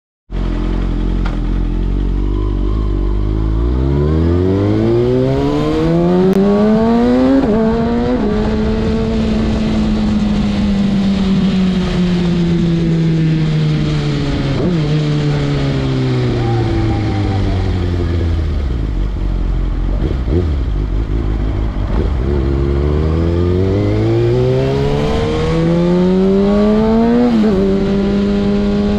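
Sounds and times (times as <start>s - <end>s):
motorcycle engine revving: 0.3s - 28.9s.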